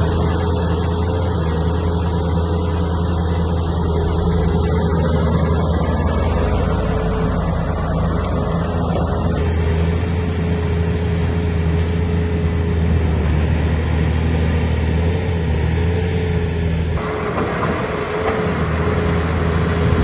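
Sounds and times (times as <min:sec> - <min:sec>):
heavy machine engine running: 0:00.0 - 0:20.0
high engine whine: 0:00.0 - 0:20.0.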